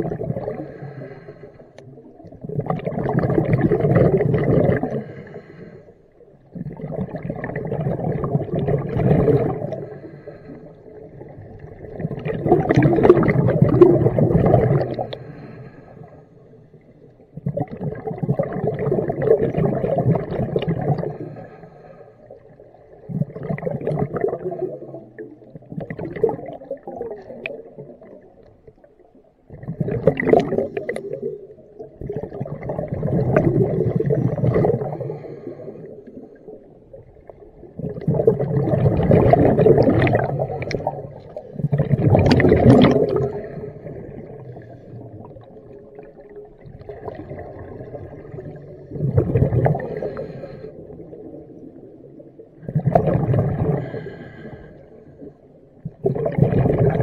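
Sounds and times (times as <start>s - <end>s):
exhaled bubbles underwater: 0.0s - 57.0s.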